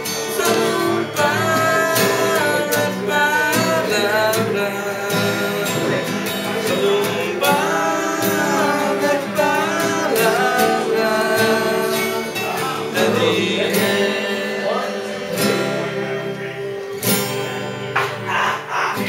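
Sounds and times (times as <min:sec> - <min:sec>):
man singing: 0:00.0 - 0:19.0
nylon-string classical guitar: 0:00.0 - 0:19.0
steel-string acoustic guitar strumming: 0:00.0 - 0:19.0.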